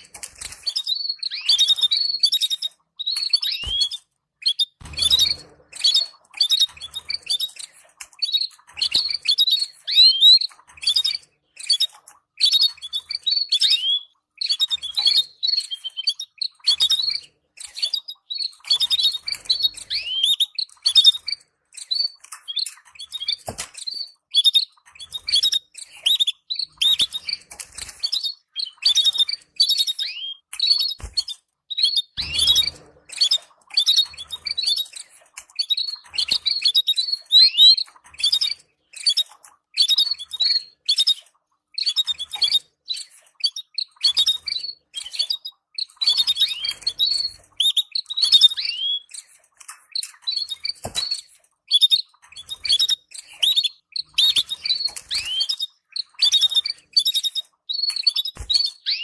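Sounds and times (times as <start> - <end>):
canaries chirping: 0.0 - 59.0.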